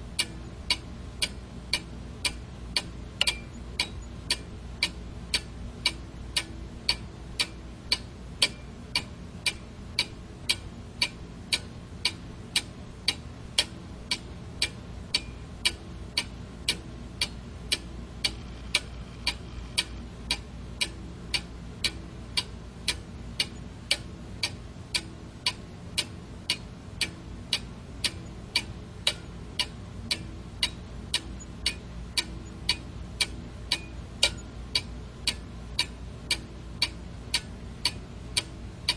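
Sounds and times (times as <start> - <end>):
clock ticking: 0.2 - 38.9.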